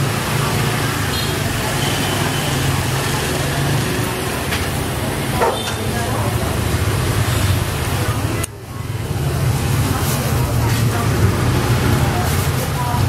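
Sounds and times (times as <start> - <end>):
motorbike engines running: 0.0 - 13.0
people talking: 0.0 - 13.0.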